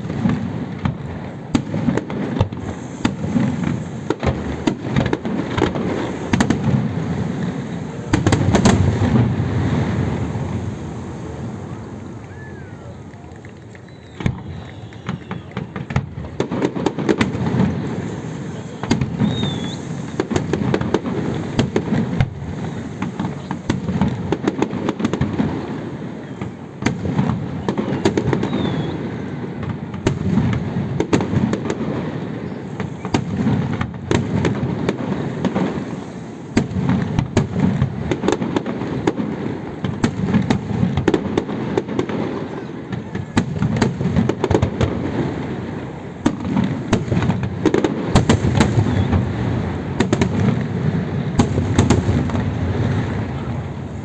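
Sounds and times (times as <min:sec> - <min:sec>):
deep firework booms: 0:00.0 - 0:54.0
fireworks bangs and crackling: 0:00.0 - 0:54.0.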